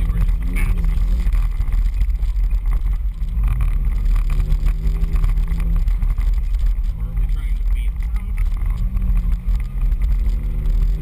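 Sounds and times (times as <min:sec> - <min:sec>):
off-road vehicle engine rumbling: 0:00.0 - 0:11.0.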